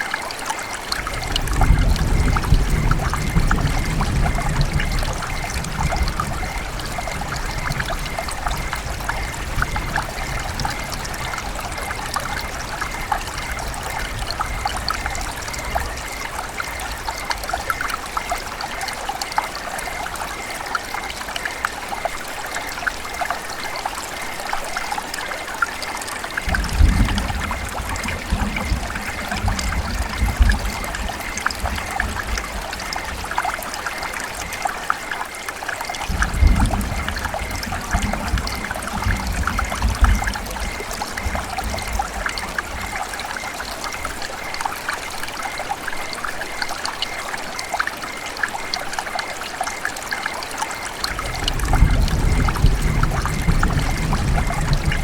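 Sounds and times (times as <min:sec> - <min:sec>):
river water burbling over stones: 0:00.0 - 0:55.0.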